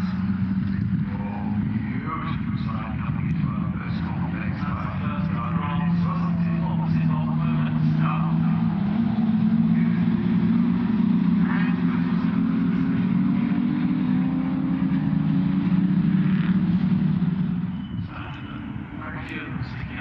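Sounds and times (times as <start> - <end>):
racing car engines passing by: 0.0 - 20.0.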